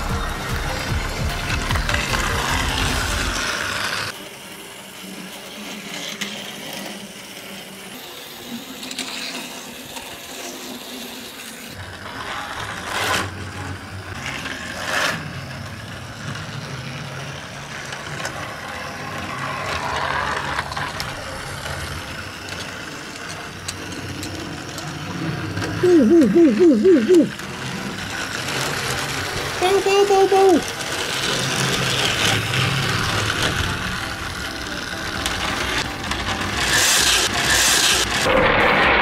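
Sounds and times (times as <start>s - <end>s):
toy train motor running: 0.0s - 39.0s
toy train rattling on track: 0.0s - 39.0s.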